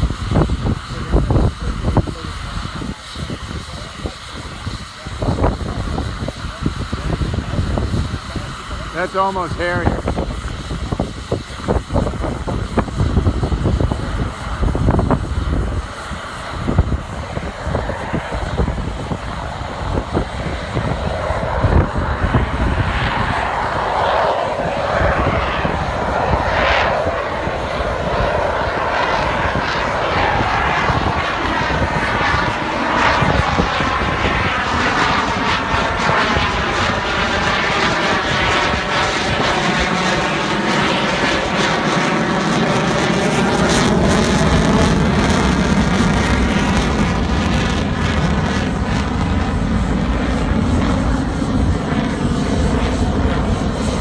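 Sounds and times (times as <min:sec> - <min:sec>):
jet engines roaring in flyby: 0:00.0 - 0:54.0
wind gusts on microphone: 0:00.0 - 0:54.0.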